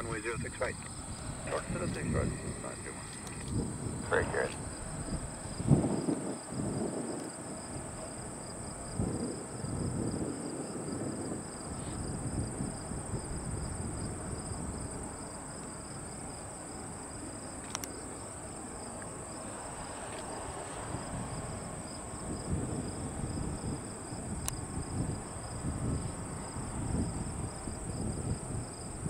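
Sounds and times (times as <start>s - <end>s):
wind rumble: 0.0s - 17.6s, 18.6s - 29.0s
distant airport noise: 0.0s - 28.8s
high-pitched insect chorus: 0.0s - 29.0s.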